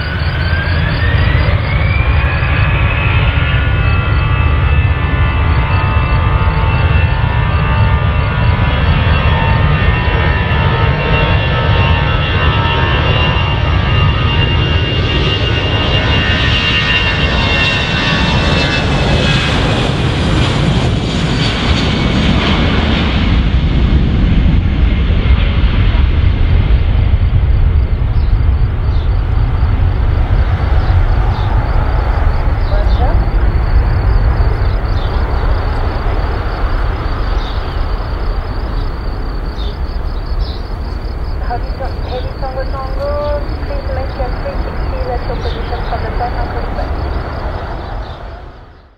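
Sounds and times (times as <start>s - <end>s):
deep engine rumble: 0.0s - 48.9s
jet engine whine: 0.0s - 48.9s.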